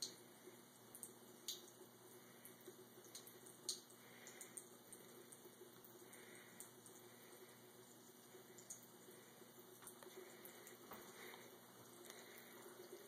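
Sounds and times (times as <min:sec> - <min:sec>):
cat lapping water: 0:00.0 - 0:13.0.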